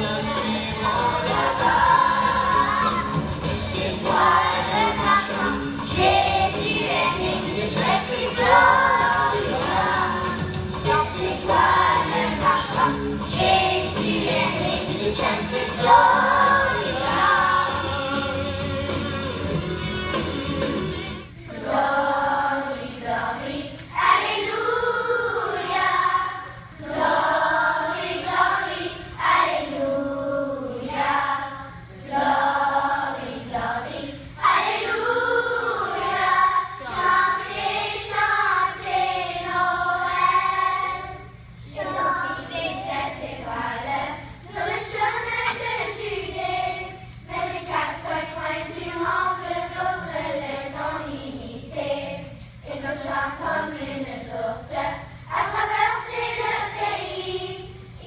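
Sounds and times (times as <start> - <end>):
children's choir singing: 0.0 - 19.6, 20.4 - 58.0.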